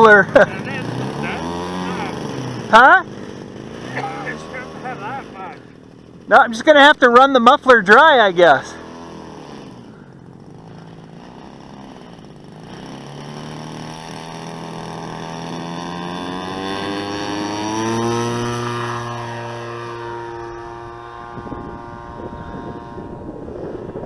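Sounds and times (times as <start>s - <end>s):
model airplane engine revving: 0.0s - 24.0s.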